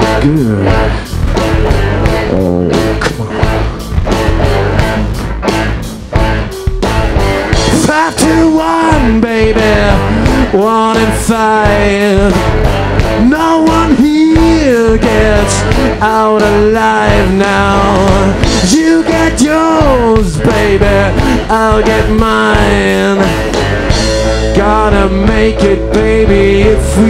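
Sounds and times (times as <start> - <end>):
bending lead melody: 0.0 - 27.0
rock band playing: 0.0 - 27.0
steady drums: 0.0 - 27.0.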